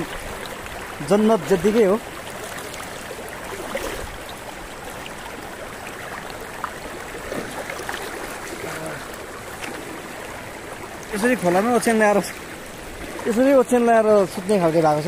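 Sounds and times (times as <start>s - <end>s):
river flowing over rocks: 0.0s - 15.0s
small water splashes: 0.0s - 15.0s.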